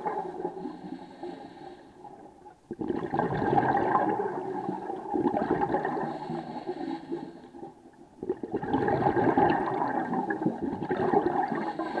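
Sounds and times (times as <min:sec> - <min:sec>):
underwater exhaust bubbles gurgling: 0:00.0 - 0:12.0.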